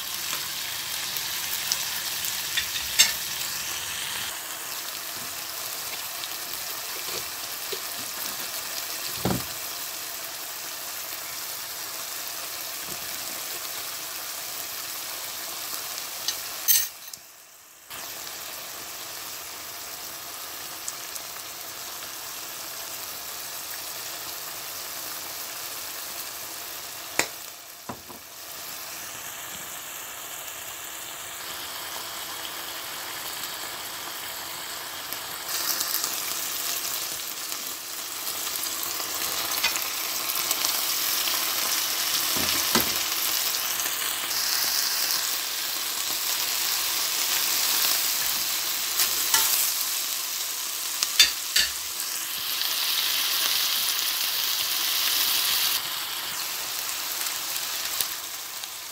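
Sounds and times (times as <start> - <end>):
food sizzling in oil: 0.0 - 58.9.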